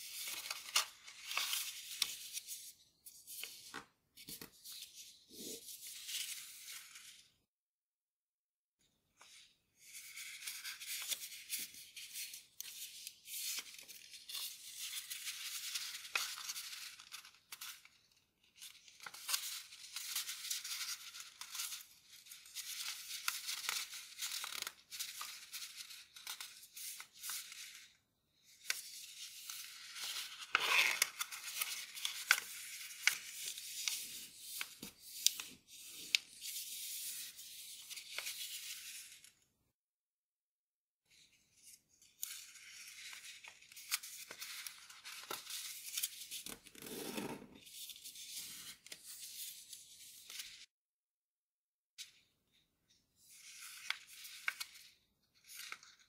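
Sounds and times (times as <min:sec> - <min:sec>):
paper rustling and crinkling: 0:00.0 - 0:07.2, 0:09.3 - 0:27.9, 0:28.6 - 0:39.3, 0:42.2 - 0:50.7, 0:53.3 - 0:56.0.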